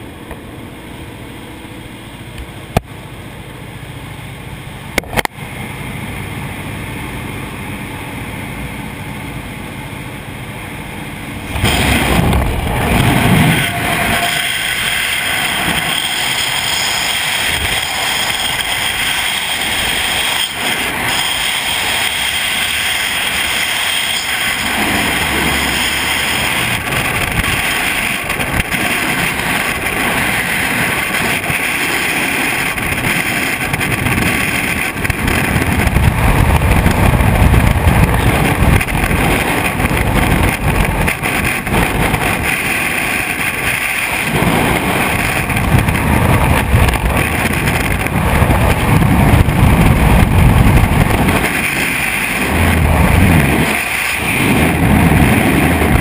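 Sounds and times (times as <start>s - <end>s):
wind buffeting microphone: 10.2s - 56.0s.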